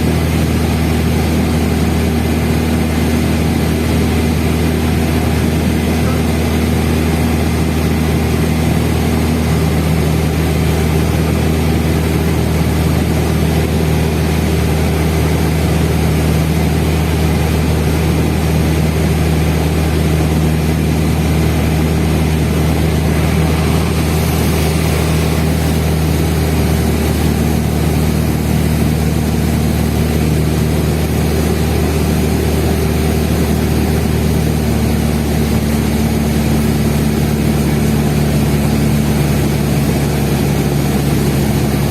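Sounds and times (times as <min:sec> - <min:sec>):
airplane engine and propeller droning: 0:00.0 - 0:41.9.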